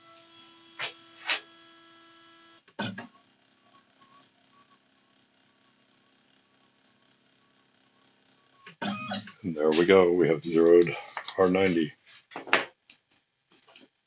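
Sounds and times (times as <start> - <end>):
low motor hum: 0.1 - 11.9.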